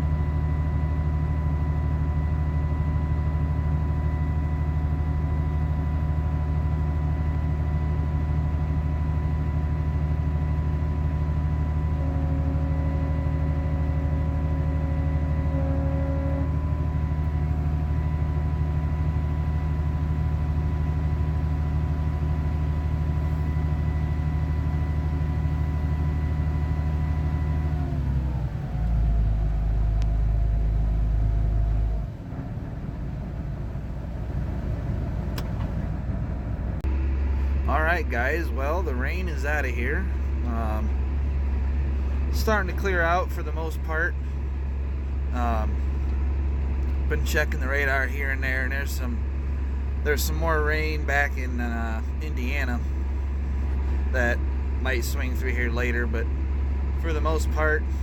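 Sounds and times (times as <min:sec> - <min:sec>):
combine harvester running: 0:00.0 - 0:58.0
heavy low rumble: 0:00.0 - 0:58.0.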